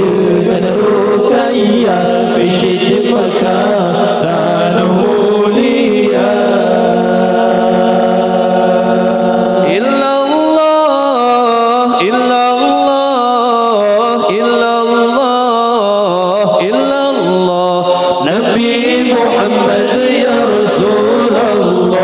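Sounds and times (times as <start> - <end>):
men chanting a cappella: 0.0 - 22.0.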